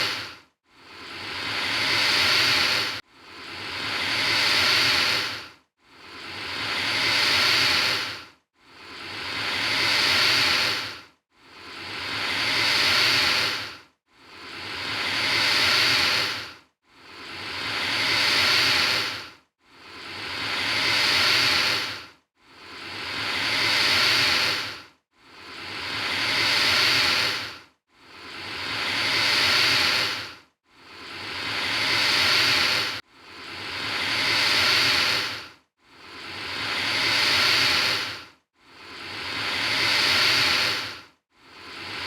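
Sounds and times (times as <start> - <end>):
alligator hissing: 0.0 - 0.3, 0.9 - 5.4, 6.1 - 11.0, 11.6 - 19.2, 19.9 - 22.0, 22.7 - 24.8, 25.4 - 27.6, 28.2 - 35.4, 36.2 - 41.0.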